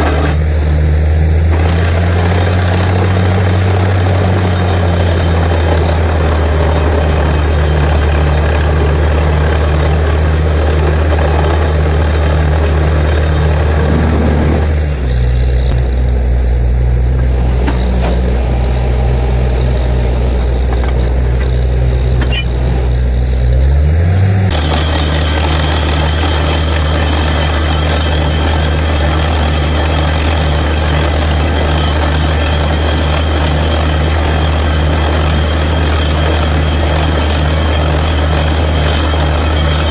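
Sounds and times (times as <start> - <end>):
drilling rig engine droning: 0.0 - 39.9.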